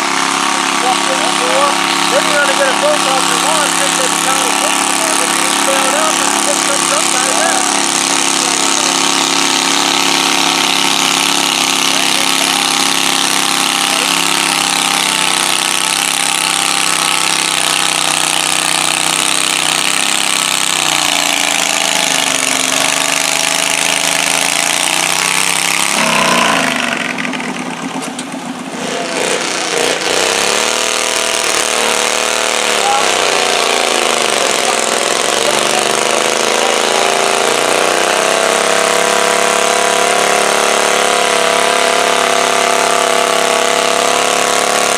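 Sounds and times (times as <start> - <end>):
tractor engine running hard: 0.0 - 44.9.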